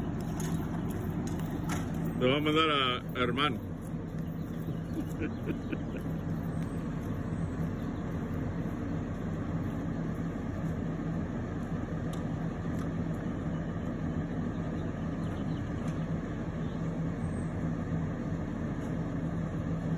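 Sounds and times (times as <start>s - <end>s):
low machine drone: 0.0s - 19.9s.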